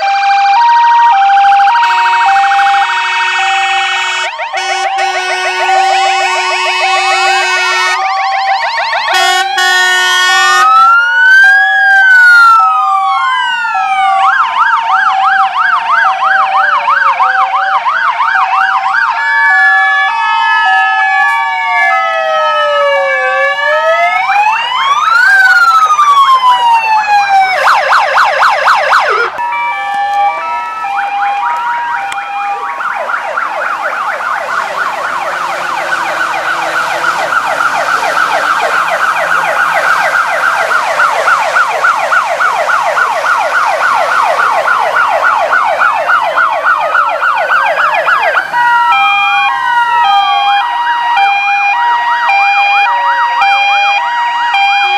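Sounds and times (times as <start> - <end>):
fire engine sirens wailing: 0.0 - 54.9.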